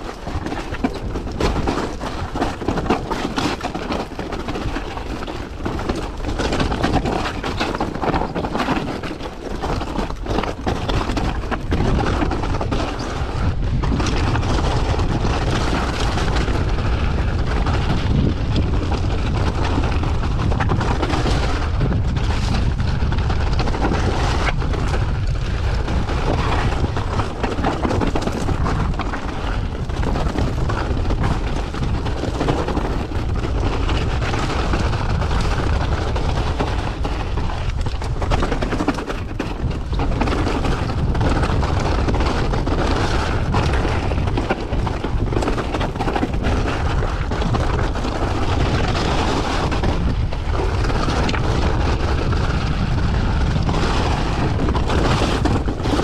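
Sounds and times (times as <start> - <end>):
bike rattling over rocks: 0.0 - 56.0
wind buffeting microphone: 0.0 - 56.0.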